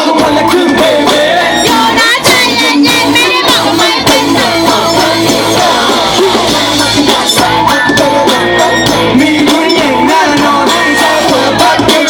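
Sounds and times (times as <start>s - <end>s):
live band playing rock-pop: 0.0s - 12.0s
person singing: 0.0s - 12.0s.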